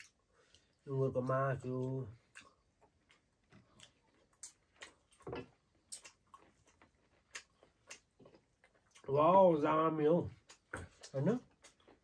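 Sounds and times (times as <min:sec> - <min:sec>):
person chewing meat: 0:00.0 - 0:09.2, 0:10.3 - 0:12.0.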